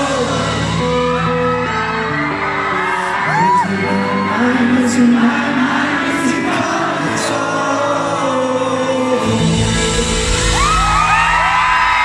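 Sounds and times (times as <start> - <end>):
audience screaming and whooping: 0.0 - 8.1, 9.2 - 12.0
live rock band playing: 0.0 - 12.0.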